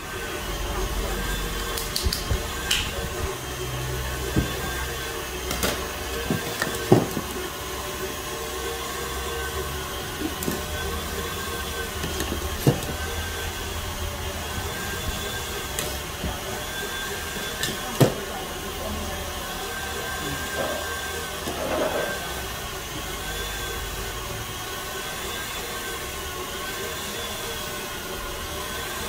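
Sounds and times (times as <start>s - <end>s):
kitchen machinery humming: 0.0s - 29.0s.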